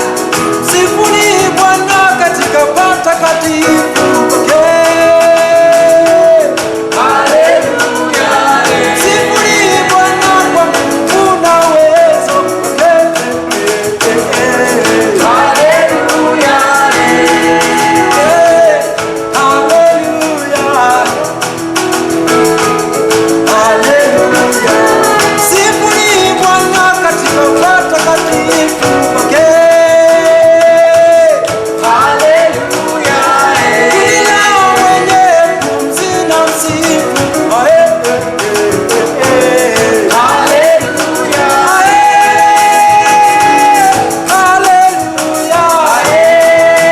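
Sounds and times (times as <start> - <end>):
instrumental band accompaniment: 0.0 - 46.9
voices singing worship song: 0.0 - 46.9.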